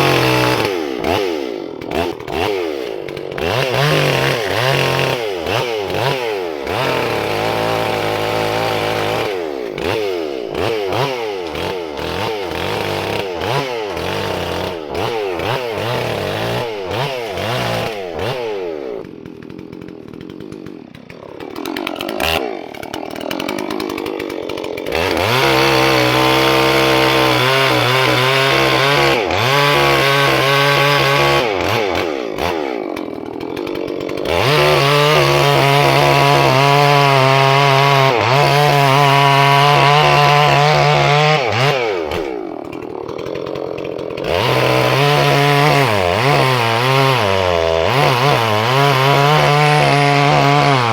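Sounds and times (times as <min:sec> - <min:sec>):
chainsaw revving: 0:00.0 - 0:50.9.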